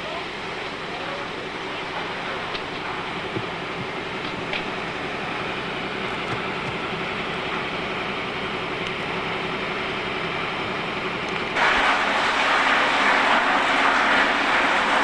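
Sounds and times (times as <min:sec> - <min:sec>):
fire burning with hiss: 0:00.4 - 0:15.0.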